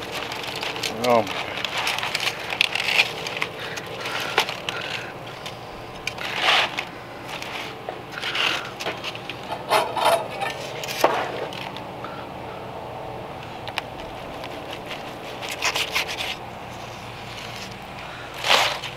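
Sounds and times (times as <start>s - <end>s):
aluminium foil crinkling: 0.0s - 11.8s, 13.5s - 18.9s.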